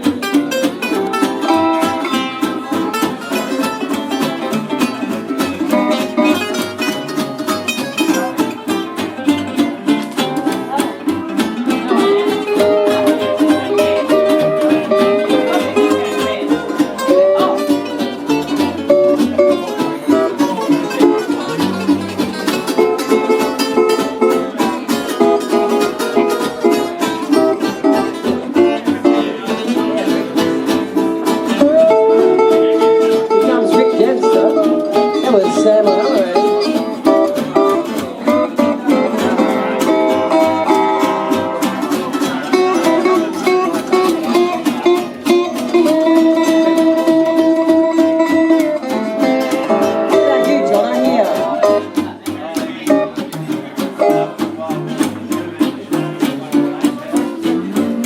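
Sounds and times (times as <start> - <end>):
acoustic string band playing: 0.0 - 58.0.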